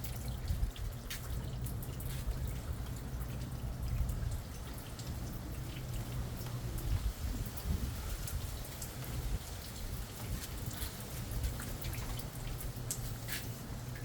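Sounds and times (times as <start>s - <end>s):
low steady rumble: 0.0s - 14.0s
raindrops ticking and dripping: 0.0s - 14.0s.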